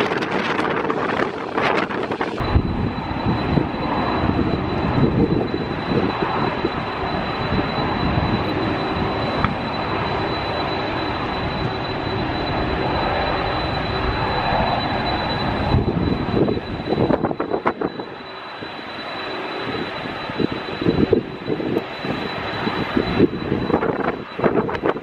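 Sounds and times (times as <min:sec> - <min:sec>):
passing jet engine whine: 0:00.0 - 0:25.0
wind buffeting microphone: 0:00.0 - 0:25.0.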